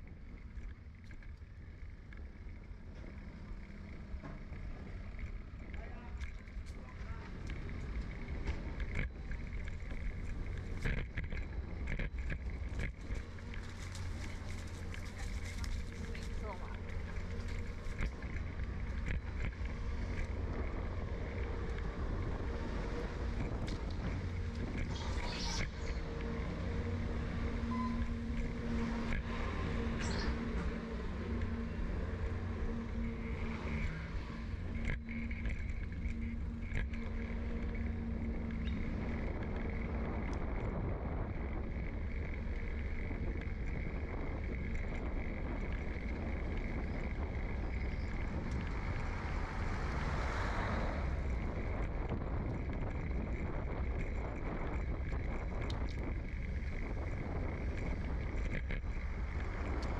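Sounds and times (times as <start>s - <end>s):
steady hum: 0.0s - 59.9s
wind and road noise: 0.0s - 59.9s.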